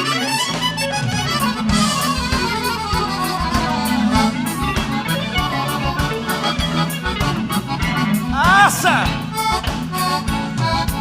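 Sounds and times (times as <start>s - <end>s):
accordion dance music: 0.0s - 11.0s
bass and drum beat: 0.6s - 11.0s.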